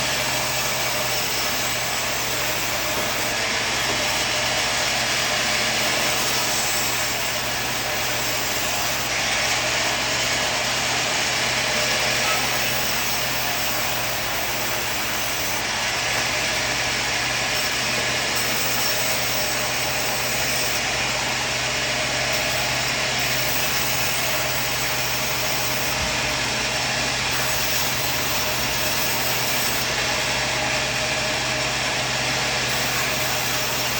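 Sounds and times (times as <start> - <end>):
sawmill sawing through wood: 0.0 - 33.9.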